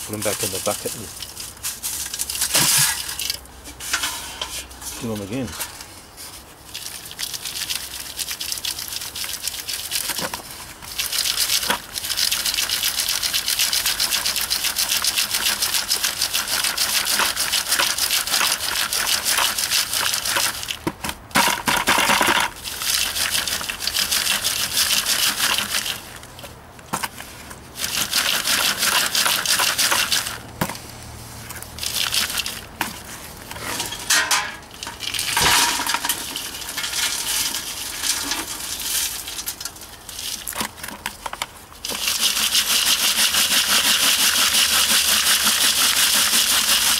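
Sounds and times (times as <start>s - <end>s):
char rattling in metal sieve: 0.0s - 46.9s.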